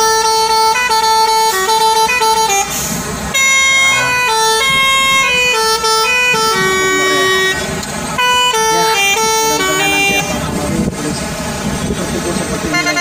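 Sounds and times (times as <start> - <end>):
lorry musical horn tune: 0.0 - 10.4, 12.7 - 13.0.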